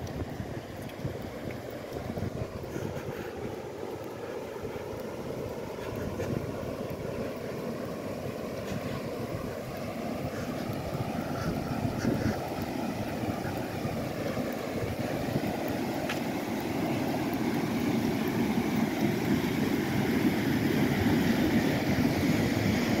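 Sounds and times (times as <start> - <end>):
wind buffeting microphone: 0.0 - 3.6, 4.5 - 23.0.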